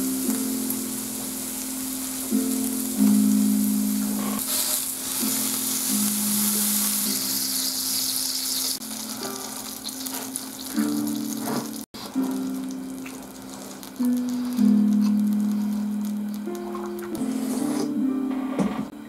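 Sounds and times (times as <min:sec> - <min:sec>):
meat sizzling on grill plate: 0:00.0 - 0:17.7
music with sustained low notes: 0:00.0 - 0:19.0.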